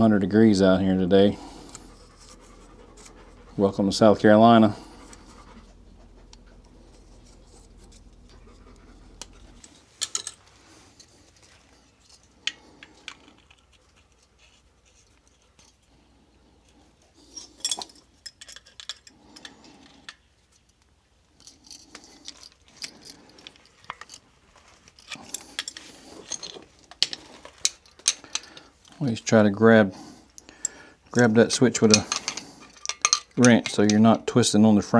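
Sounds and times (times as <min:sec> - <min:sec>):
metal fittings clinking and scraping: 0:00.0 - 0:14.6, 0:17.2 - 0:20.2, 0:21.4 - 0:29.3, 0:30.4 - 0:34.2.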